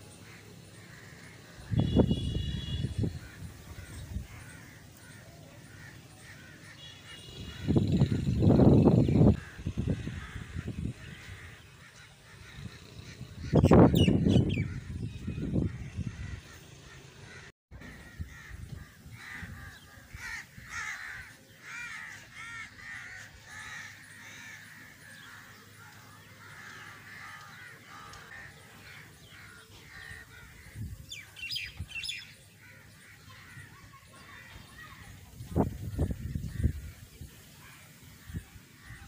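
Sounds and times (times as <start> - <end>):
crows cawing: 0.2 - 1.8, 2.6 - 8.7, 9.3 - 13.6, 15.6 - 35.1.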